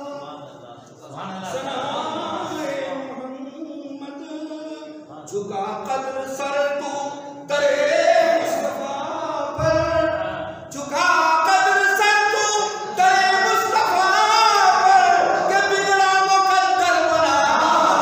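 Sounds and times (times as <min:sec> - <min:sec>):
man singing through microphone: 0:00.0 - 0:18.0.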